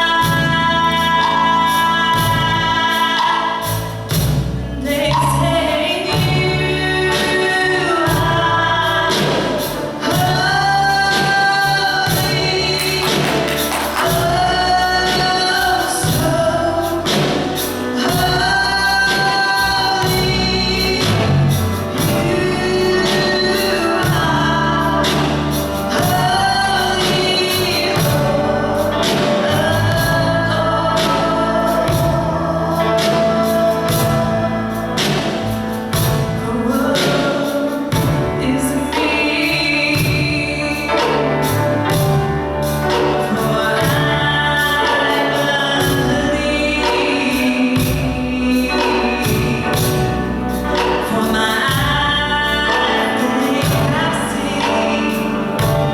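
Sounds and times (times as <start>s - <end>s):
band with beat and bass: 0.0s - 55.9s
choir singing gospel: 0.0s - 55.9s.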